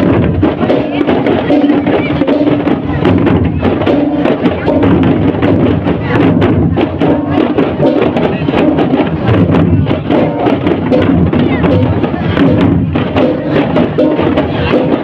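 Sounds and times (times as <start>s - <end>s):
live percussive music: 0.0s - 15.0s.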